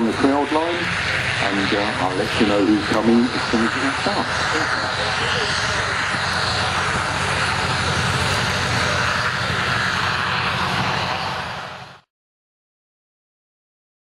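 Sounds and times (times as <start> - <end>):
aircraft engine drone: 0.0 - 12.1.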